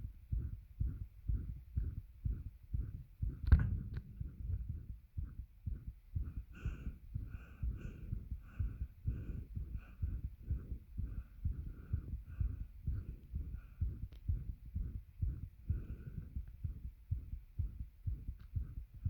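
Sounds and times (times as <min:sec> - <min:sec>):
heartbeat thumps: 0:00.0 - 0:19.0.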